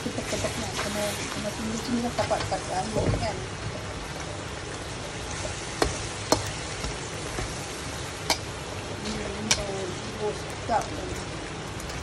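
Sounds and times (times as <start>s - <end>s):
gravy sizzling and bubbling in a wok: 0.0s - 12.0s.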